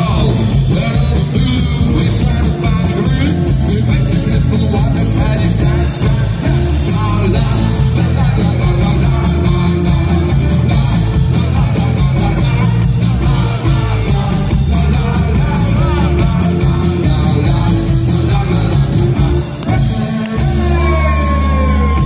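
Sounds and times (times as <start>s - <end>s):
drum kit beat: 0.0s - 22.0s
electric bass: 0.0s - 22.0s
folk rock band playing: 0.0s - 22.0s.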